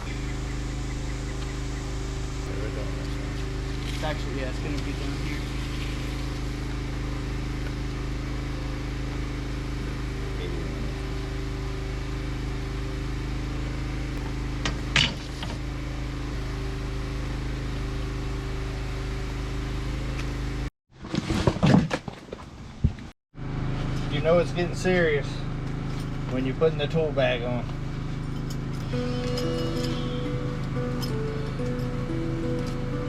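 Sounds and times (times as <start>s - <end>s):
engine idling: 0.0s - 20.7s, 23.4s - 33.0s.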